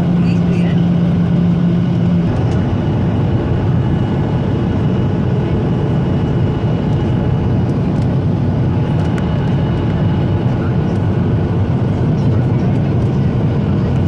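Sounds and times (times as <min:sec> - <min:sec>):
airplane cabin engine roar: 0:00.0 - 0:14.0.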